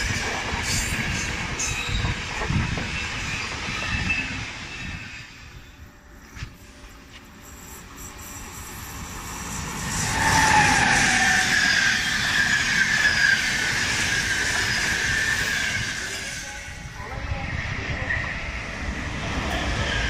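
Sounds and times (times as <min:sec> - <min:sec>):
train wheels rushing on rail: 0:00.0 - 0:20.0.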